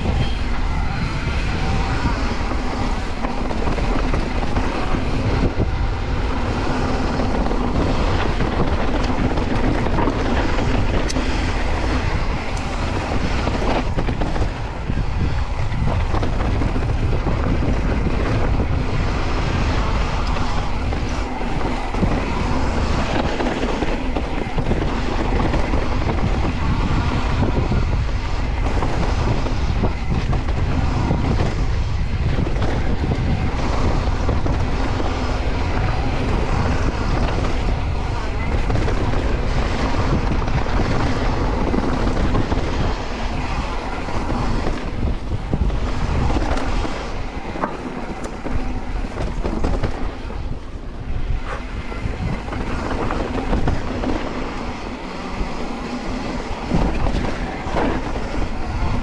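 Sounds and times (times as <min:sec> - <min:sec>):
bike tyre noise on trail: 0:00.0 - 0:59.0
wind rush on microphone: 0:00.0 - 0:59.0.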